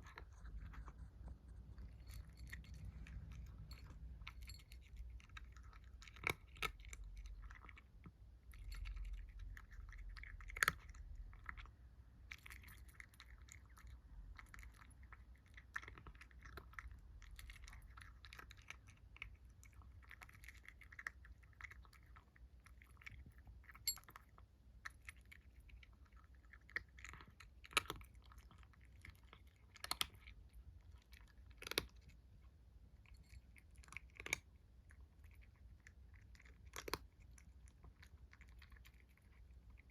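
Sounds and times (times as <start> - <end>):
kitten chewing food: 0.0 - 39.9.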